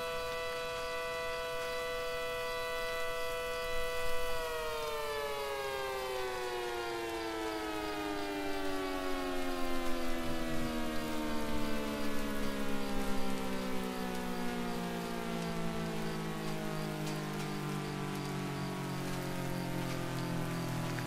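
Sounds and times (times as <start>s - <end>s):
two-tone siren winding down: 0.0s - 21.0s.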